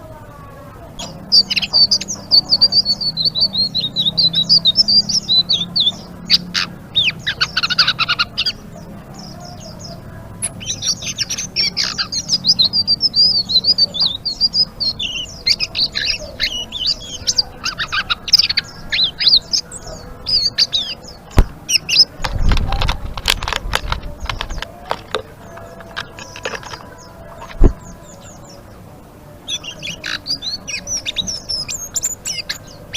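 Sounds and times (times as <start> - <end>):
songbird twittering trills: 0.8 - 32.9.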